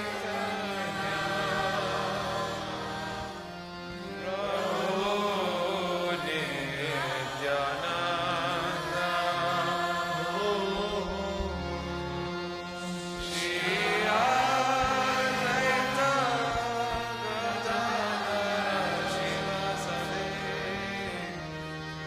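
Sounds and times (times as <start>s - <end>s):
devotional chant singing: 0.0s - 22.0s
held instrumental drone: 0.0s - 22.0s.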